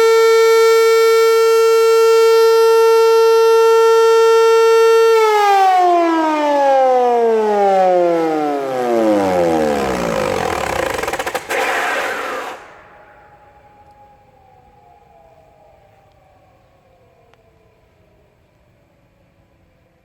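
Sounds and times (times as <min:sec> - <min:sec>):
siren wailing and winding down: 0:00.0 - 0:17.5.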